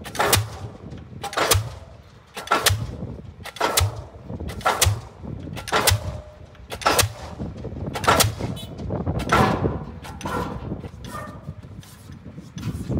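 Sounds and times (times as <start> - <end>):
pile hammer blows: 0.0 - 12.9.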